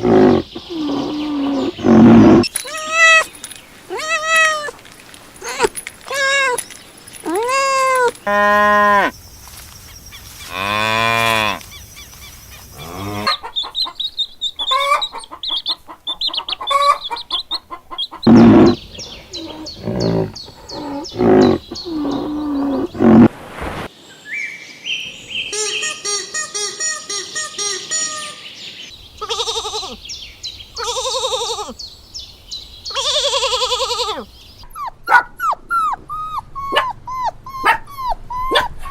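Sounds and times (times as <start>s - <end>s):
farm animal calls: 0.0s - 23.3s, 29.2s - 31.8s, 32.8s - 38.9s.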